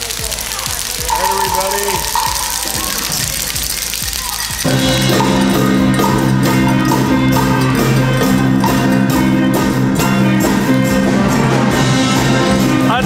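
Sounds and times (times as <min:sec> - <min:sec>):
music with percussive beat: 0:00.0 - 0:13.0.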